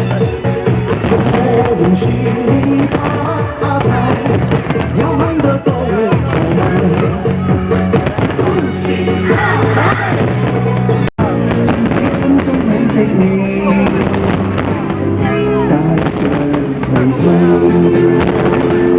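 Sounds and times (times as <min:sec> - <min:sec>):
fireworks bursting and crackling: 0:00.0 - 0:15.3, 0:15.9 - 0:18.9
music with singing: 0:00.0 - 0:18.9.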